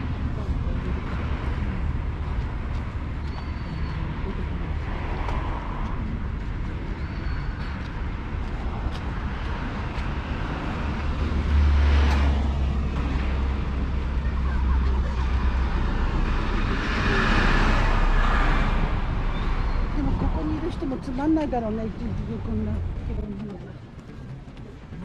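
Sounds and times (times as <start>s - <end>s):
heavy low rumble: 0.0s - 25.0s
vehicles passing: 0.0s - 25.0s.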